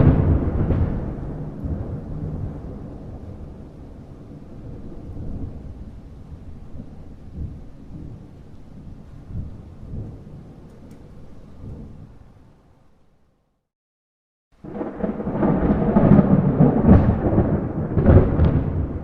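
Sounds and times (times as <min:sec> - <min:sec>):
thunder rumbling: 0:00.0 - 0:12.8, 0:14.6 - 0:19.0
rain: 0:00.0 - 0:13.4, 0:14.6 - 0:19.0.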